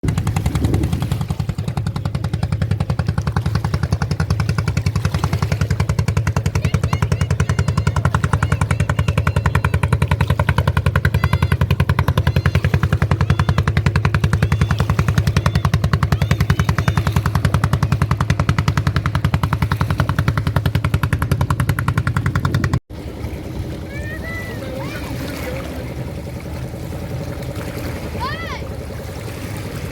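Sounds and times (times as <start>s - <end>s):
boat engine chugging: 0.0s - 29.9s.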